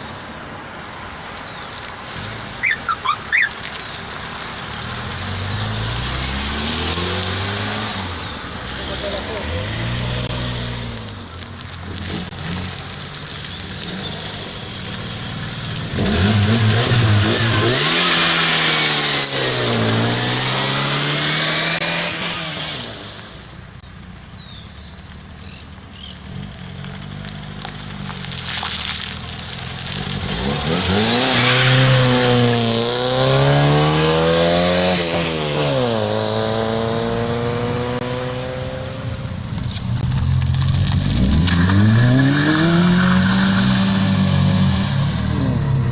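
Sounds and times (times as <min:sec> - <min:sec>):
cars accelerating past: 0:02.0 - 0:11.2, 0:11.9 - 0:23.5, 0:29.9 - 0:45.9.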